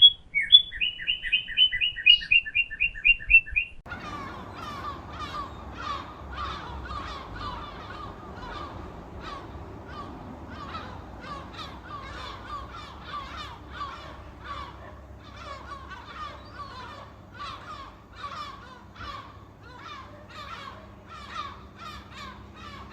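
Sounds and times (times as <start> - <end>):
flock of birds calling: 3.9 - 22.9.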